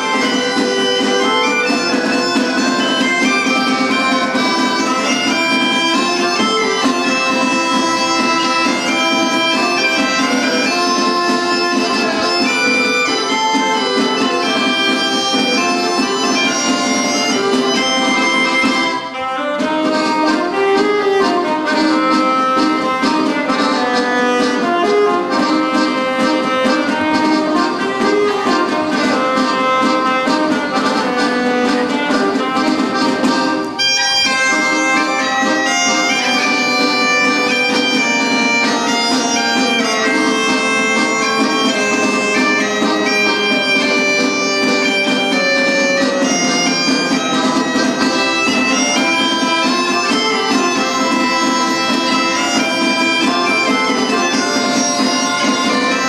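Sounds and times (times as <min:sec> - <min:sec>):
bagpipe drone: 0:00.0 - 0:56.0
drum beat: 0:00.0 - 0:56.0
live folk band playing: 0:00.0 - 0:56.0.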